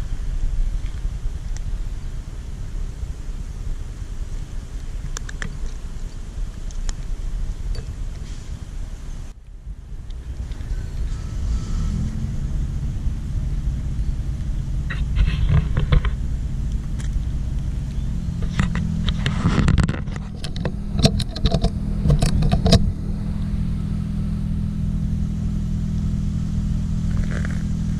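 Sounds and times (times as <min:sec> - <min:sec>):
vehicle engine idling: 0:00.0 - 0:27.9.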